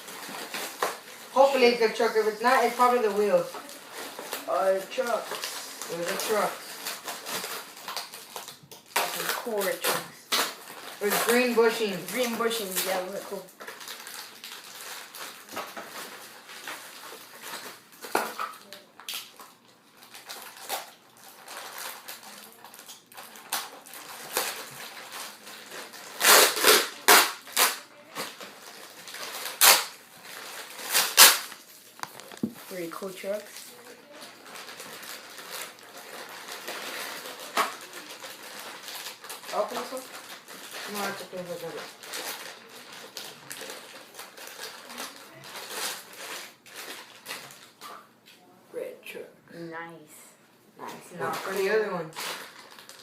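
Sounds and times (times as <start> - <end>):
packaging rustling and crinkling: 0.0 - 48.0, 51.2 - 53.0.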